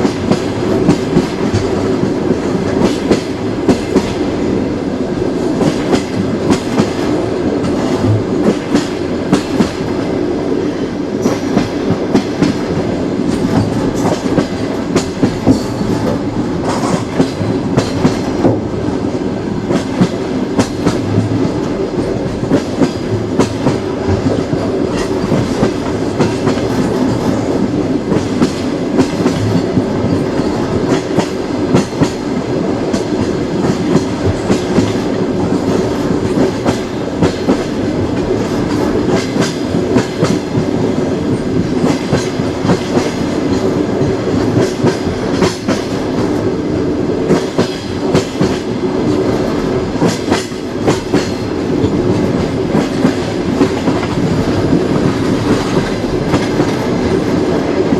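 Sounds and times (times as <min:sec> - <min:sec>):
train wheels rumbling: 0:00.0 - 0:57.9.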